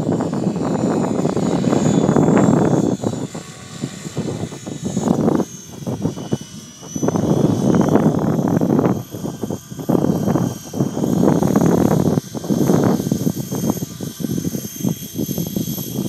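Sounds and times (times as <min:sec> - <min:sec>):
gusty rumble: 0:00.0 - 0:16.0
rc helicopter motor whine: 0:00.0 - 0:16.0.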